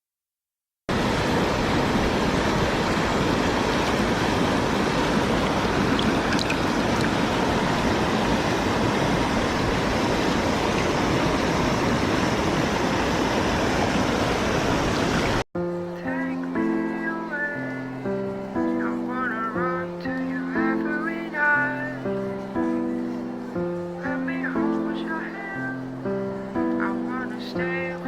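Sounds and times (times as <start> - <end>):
river rapids rushing: 0.9 - 28.0.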